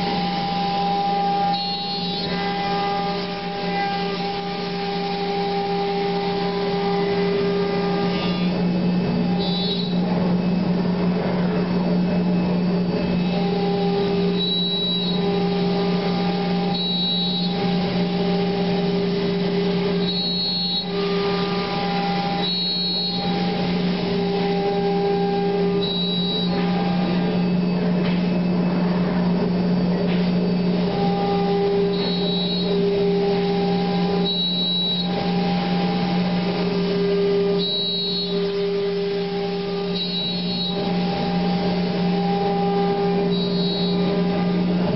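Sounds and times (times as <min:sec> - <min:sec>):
cnc router humming: 0:00.0 - 0:44.9
machine whines: 0:00.0 - 0:44.9.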